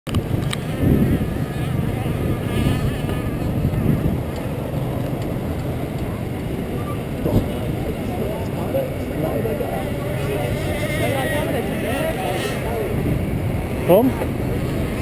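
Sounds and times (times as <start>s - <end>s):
motor scooter engines buzzing: 0.1s - 15.0s
road and wind noise: 0.1s - 15.0s.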